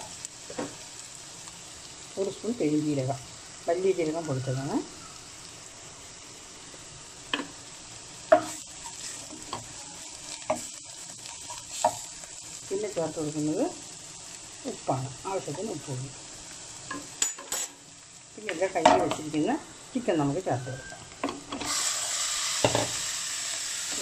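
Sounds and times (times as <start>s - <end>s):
onions sizzling in a pot: 0.0s - 24.0s.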